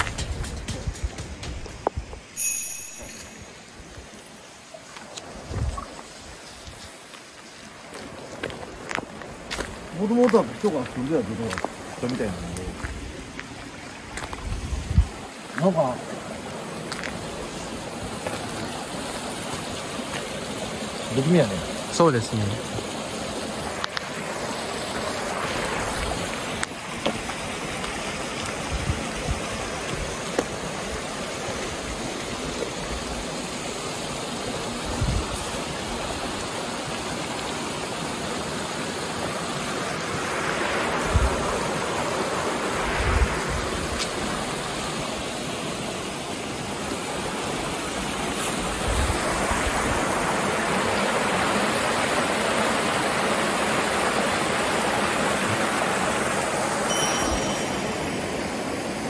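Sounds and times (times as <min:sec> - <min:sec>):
rushing water-like noise: 0:00.0 - 0:59.0.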